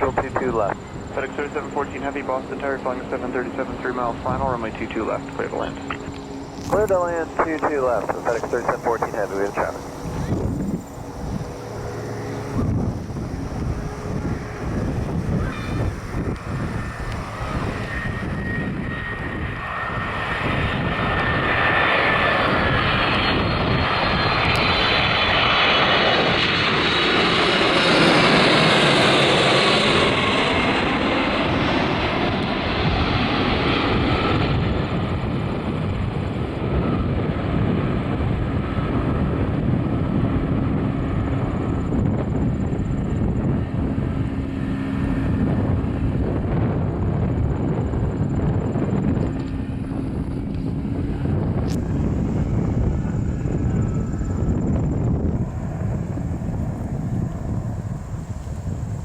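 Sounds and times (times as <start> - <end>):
jet engines high whine: 0.0 - 59.0
low jet rumble: 0.0 - 59.0.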